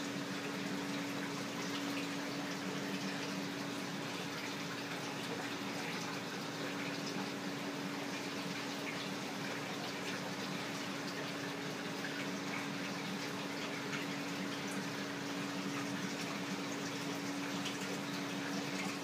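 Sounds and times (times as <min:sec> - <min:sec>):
low pump hum: 0:00.0 - 0:19.0
water rushing and trickling: 0:00.0 - 0:19.0.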